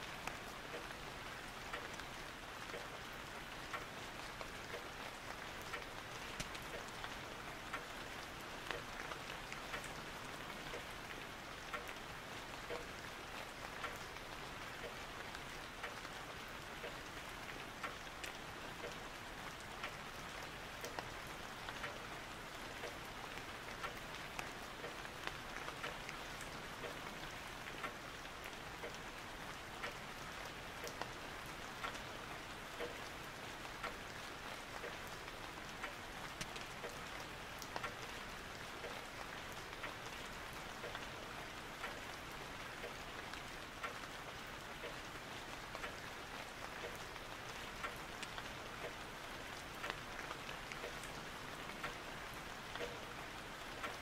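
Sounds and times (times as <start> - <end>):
soft hiss with small ticks: 0.0 - 54.0.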